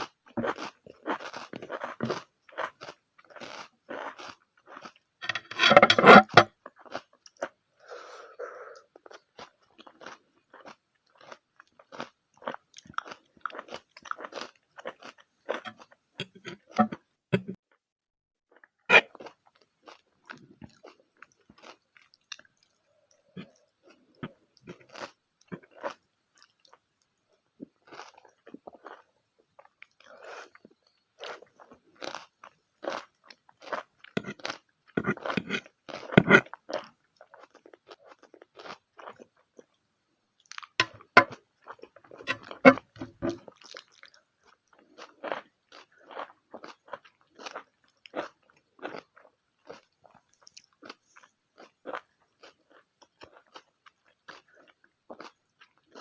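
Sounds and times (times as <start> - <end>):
person chewing crunchy food: 0.0 - 17.0, 18.5 - 26.9, 27.6 - 39.8, 40.4 - 56.0.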